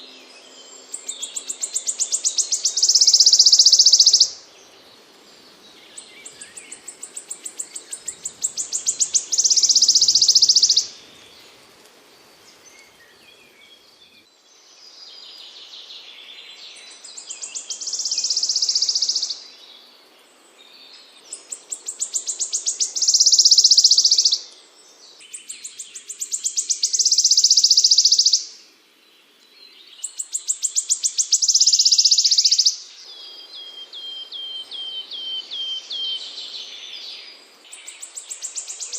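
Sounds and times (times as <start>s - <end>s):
songbird buzzy trill song: 0.0s - 38.9s.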